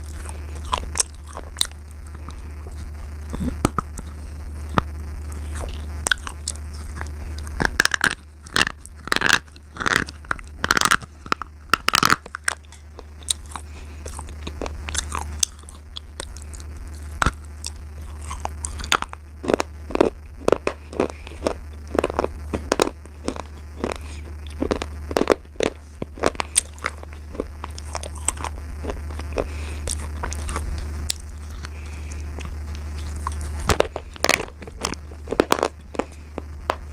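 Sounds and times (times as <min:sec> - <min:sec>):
pencil being chewed crunching: 0:00.0 - 0:36.9
steady low hum: 0:00.0 - 0:36.9.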